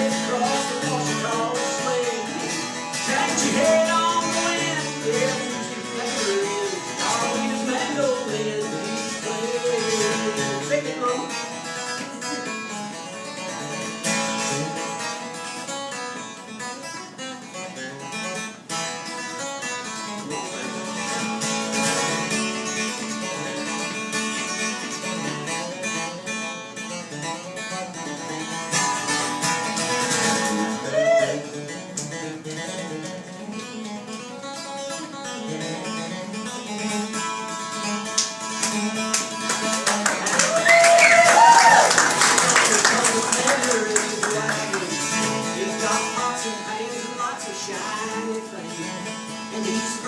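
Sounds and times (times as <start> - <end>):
acoustic guitar: 0.0 - 50.0.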